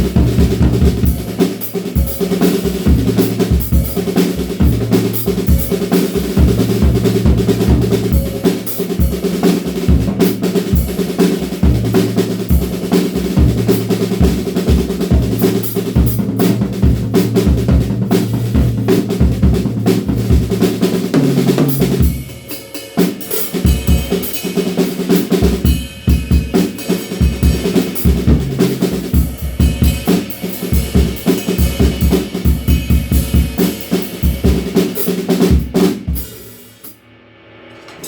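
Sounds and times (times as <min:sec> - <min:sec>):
drum kit groove: 0:00.0 - 0:37.0, 0:37.7 - 0:38.0.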